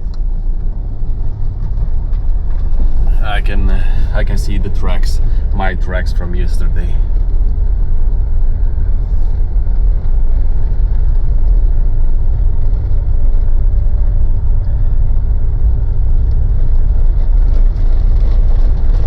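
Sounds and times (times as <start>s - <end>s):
diesel engine rumble inside cabin: 0.0s - 19.0s.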